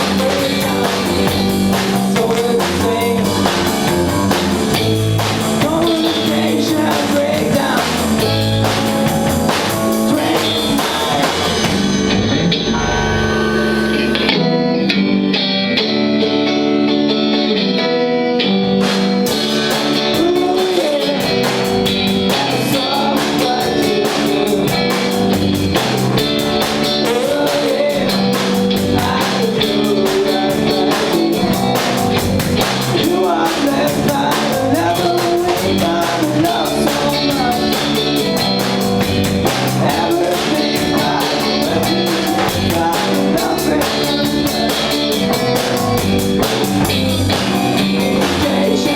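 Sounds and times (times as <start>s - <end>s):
drum kit with cymbal beat: 0.0s - 14.4s, 18.7s - 48.9s
electric guitar chords: 0.0s - 48.9s.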